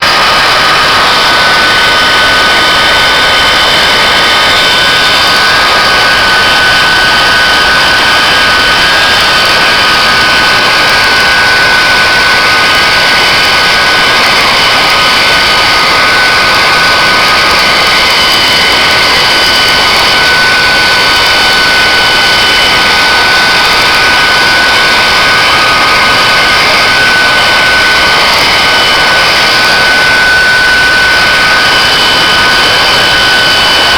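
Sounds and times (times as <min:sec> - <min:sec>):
jet engine rushing and whining: 0:00.0 - 0:33.9.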